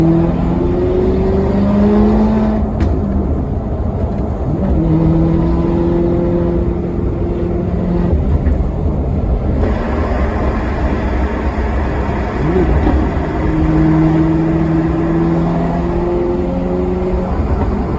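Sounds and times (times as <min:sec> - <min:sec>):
car engine accelerating: 0:00.0 - 0:17.9.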